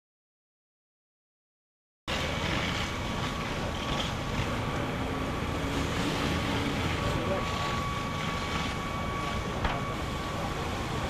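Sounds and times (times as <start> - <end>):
flames burning: 2.1 - 11.0.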